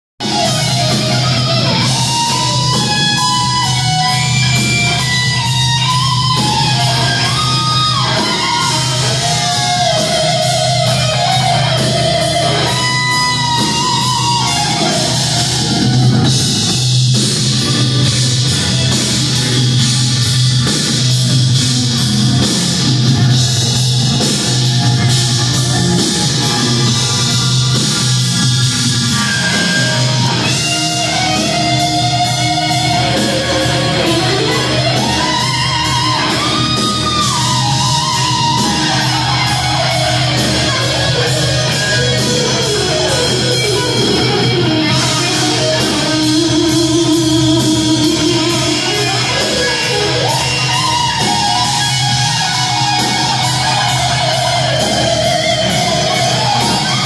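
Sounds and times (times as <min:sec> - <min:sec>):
distorted lead electric guitar: 0:00.2 - 0:57.0
live heavy metal band: 0:00.2 - 0:57.0.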